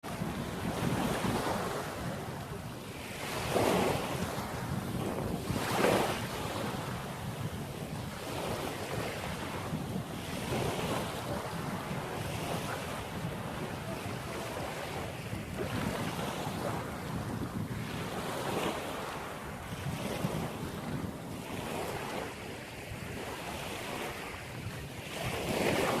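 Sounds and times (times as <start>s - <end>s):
sea waves washing in: 0.0s - 26.0s
wind buffeting microphone: 0.0s - 26.0s.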